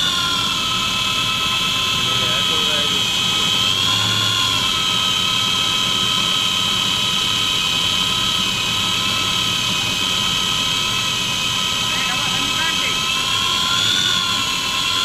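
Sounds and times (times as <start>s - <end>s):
drill motor high-pitched whine: 0.0s - 15.0s.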